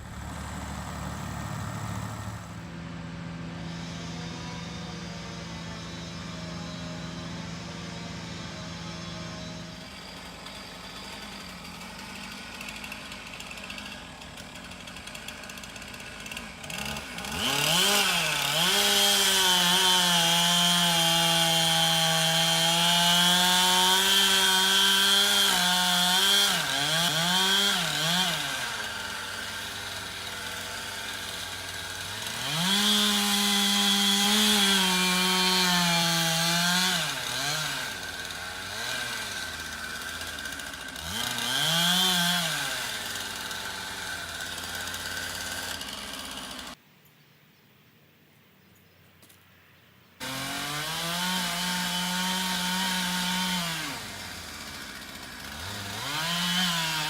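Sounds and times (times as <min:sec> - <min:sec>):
chainsaw cutting wood: 0:00.0 - 0:46.8, 0:50.2 - 0:57.0.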